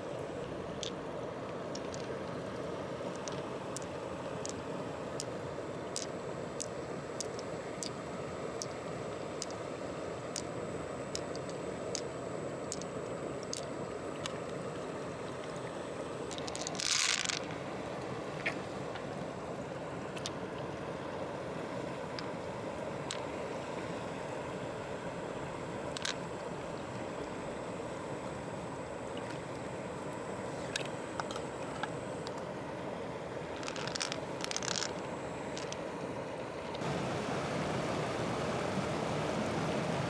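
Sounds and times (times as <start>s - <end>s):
flowing water: 0.0s - 40.0s.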